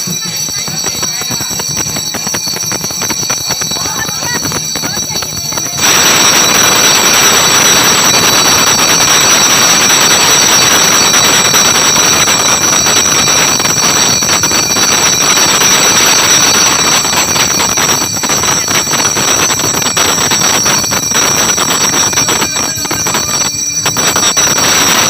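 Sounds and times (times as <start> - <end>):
hand bell shaken rapidly: 0.0 - 25.0.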